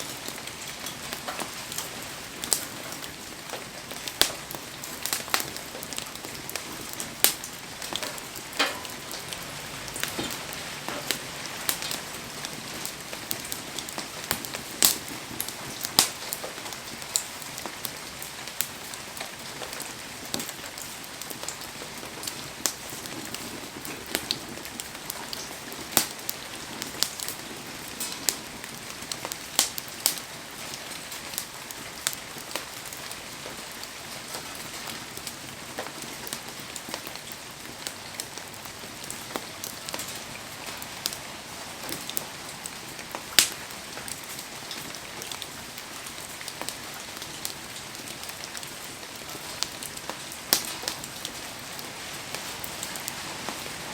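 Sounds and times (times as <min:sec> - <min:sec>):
campfire crackling and popping: 0:00.0 - 0:53.9
heavy rain falling: 0:00.0 - 0:53.9.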